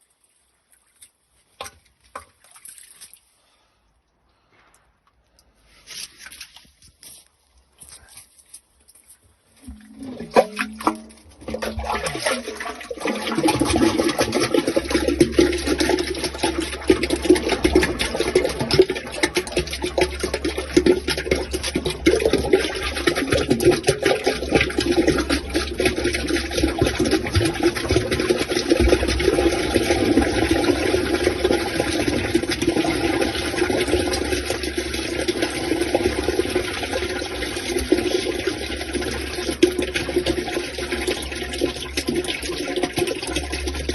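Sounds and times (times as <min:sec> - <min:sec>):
water splashing through a drain: 0:00.7 - 0:03.4, 0:09.6 - 0:43.9.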